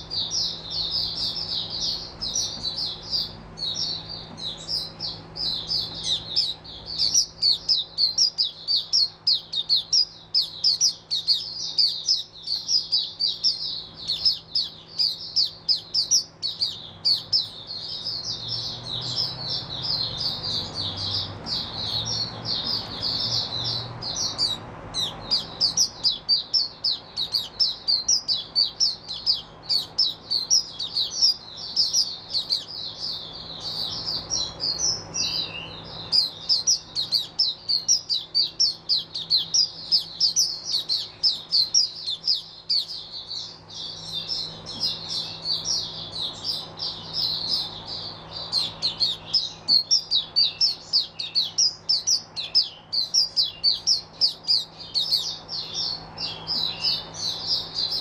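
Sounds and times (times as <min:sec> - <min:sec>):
bird twittering chirps: 0:00.0 - 0:58.0.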